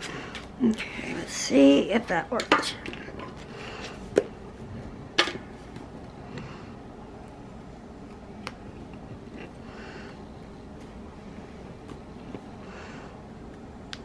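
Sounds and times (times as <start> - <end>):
low room hiss: 0.0 - 14.0.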